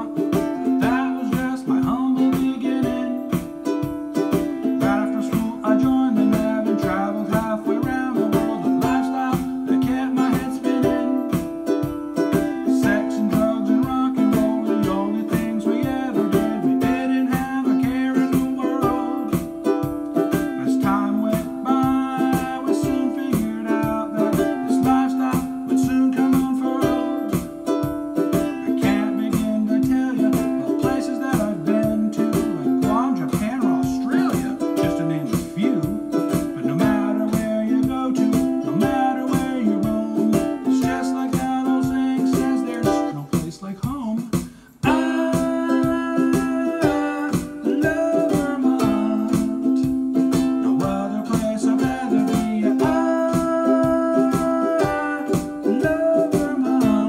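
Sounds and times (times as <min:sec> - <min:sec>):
man singing: 0:00.0 - 0:57.0
ukulele strumming chords: 0:00.0 - 0:57.0.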